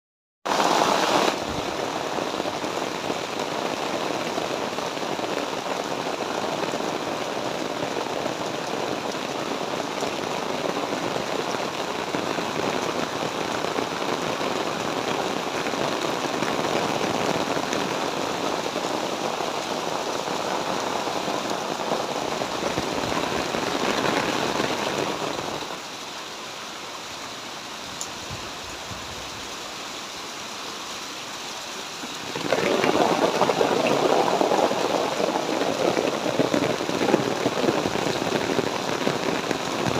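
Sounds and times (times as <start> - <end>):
heavy rain pouring: 0.5 - 39.9.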